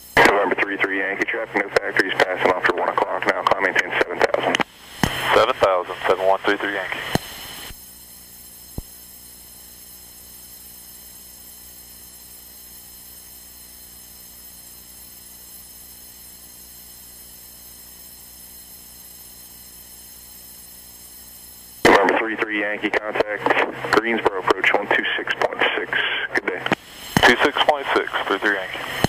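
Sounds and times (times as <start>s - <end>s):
electrical hum with high buzz: 0.0s - 29.0s.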